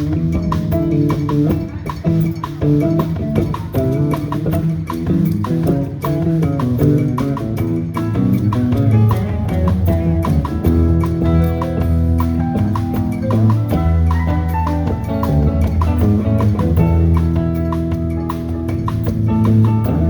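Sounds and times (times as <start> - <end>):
bass guitar notes: 0.0 - 20.0
drum beat: 0.0 - 20.0
guitar notes: 0.0 - 20.0.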